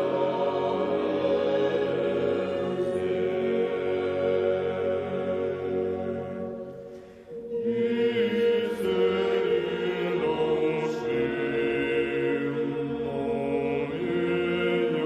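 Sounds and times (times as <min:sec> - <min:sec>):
choir chanting held chords: 0:00.0 - 0:15.0.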